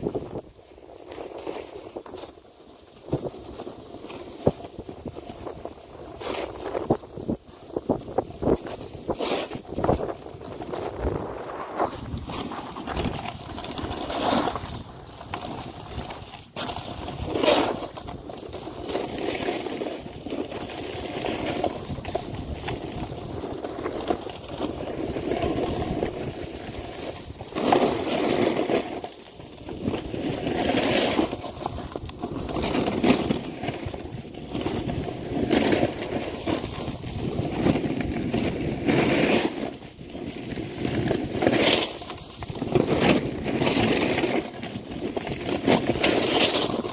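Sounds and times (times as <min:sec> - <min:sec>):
snowboard scraping over snow: 0:00.0 - 0:46.9.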